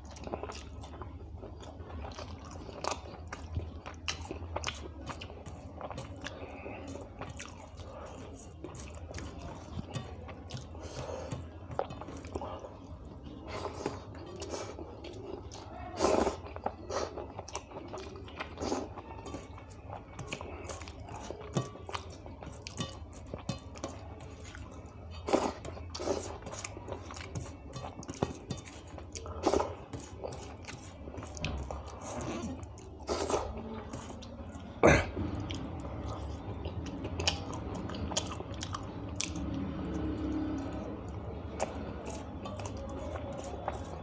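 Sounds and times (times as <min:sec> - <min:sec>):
low steady hum: 0:00.0 - 0:44.0
person chewing food: 0:00.0 - 0:44.0.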